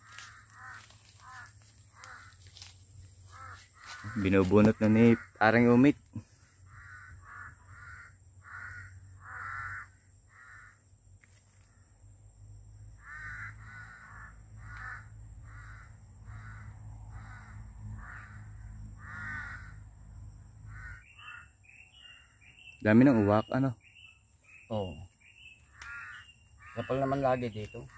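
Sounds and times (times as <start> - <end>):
crows cawing: 0.0 - 10.8, 13.0 - 19.9, 20.7 - 22.8, 24.5 - 27.9.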